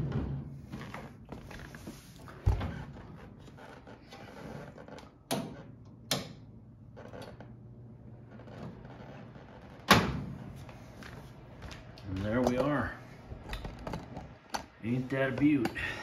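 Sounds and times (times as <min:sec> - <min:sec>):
heater humming: 0:00.0 - 0:16.0.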